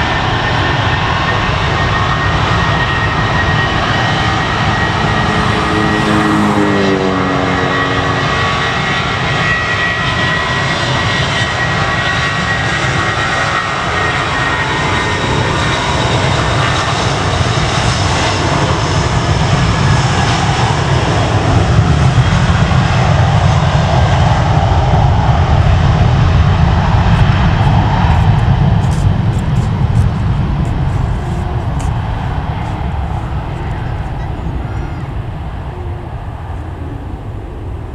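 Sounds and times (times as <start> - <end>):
jet engines roaring: 0.0 - 37.9.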